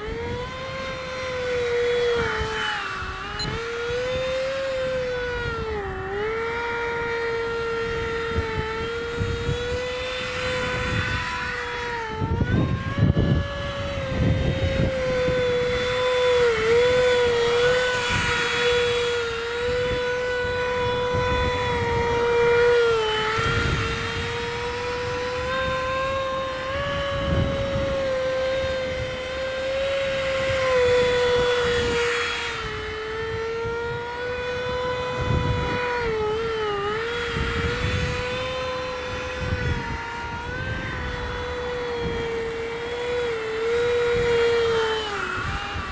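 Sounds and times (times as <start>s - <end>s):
electric ducted fan whining: 0.0s - 45.9s
wind rumbling on microphone: 0.0s - 45.9s.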